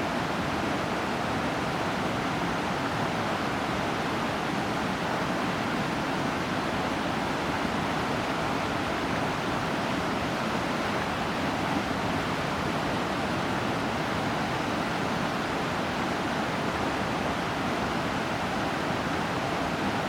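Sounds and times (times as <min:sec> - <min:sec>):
water rushing over waterfall: 0:00.0 - 0:20.0.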